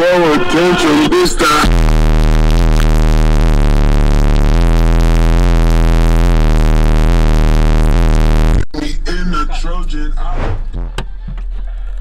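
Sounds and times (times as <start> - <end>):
subwoofer low bass tone: 0.0 - 12.0.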